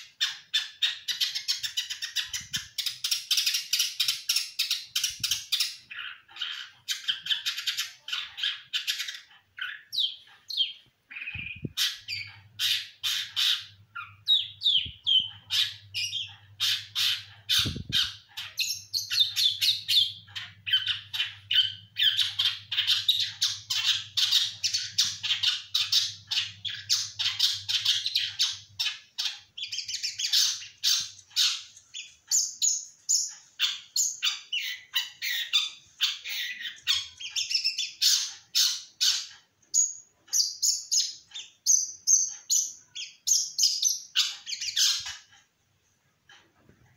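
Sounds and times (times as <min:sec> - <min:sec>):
songbird chattering: 0:00.0 - 0:45.3.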